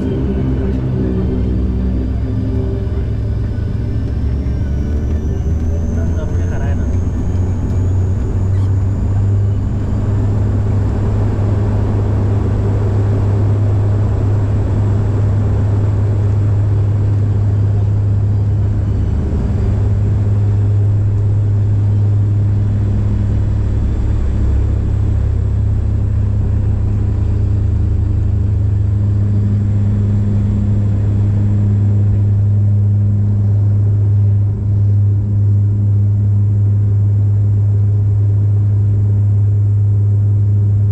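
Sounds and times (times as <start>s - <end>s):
engine and airflow rush: 0.0s - 40.9s
propeller drone: 0.0s - 40.9s.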